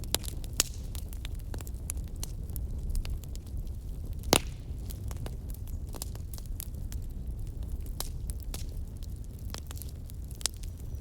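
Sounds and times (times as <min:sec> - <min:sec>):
burning wood crackling: 0:00.0 - 0:11.0
fire popping: 0:00.0 - 0:11.0.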